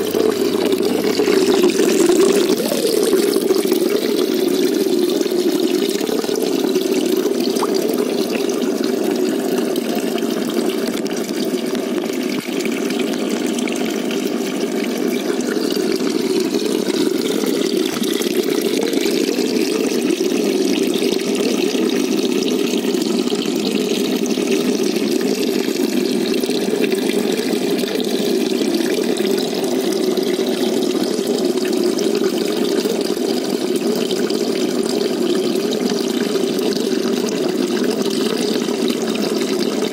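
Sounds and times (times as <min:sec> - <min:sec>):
running water in a pond: 0:00.0 - 0:39.9.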